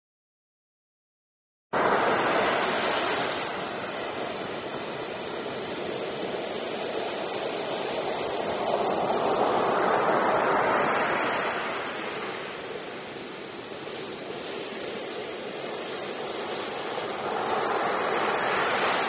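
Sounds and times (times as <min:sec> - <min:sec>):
waves crashing on beach: 0:01.8 - 0:19.0.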